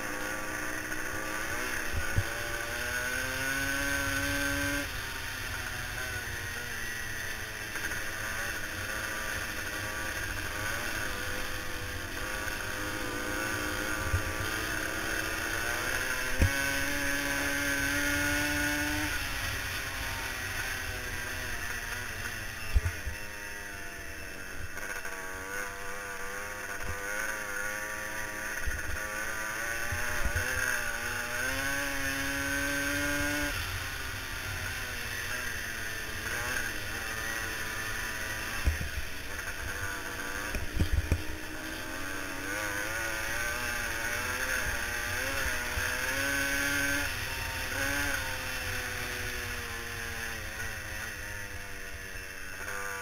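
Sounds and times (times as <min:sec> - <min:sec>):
racing engine revving: 0:00.0 - 0:53.0.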